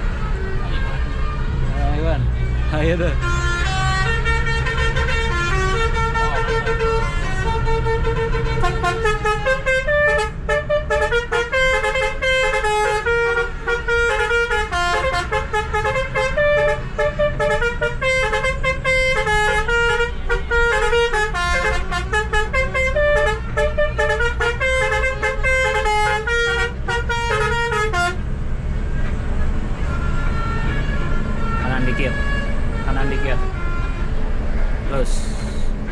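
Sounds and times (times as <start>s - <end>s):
bus engine hum: 0.0s - 35.9s
musical bus horn tune: 2.9s - 28.3s, 29.0s - 34.4s.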